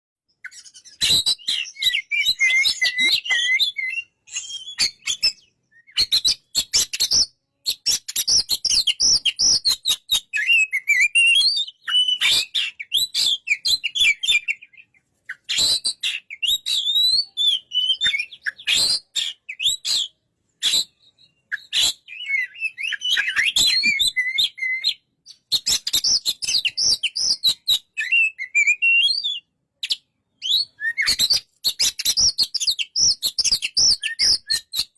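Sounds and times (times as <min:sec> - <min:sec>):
bird singing whistles and chirps: 0:00.3 - 0:34.9.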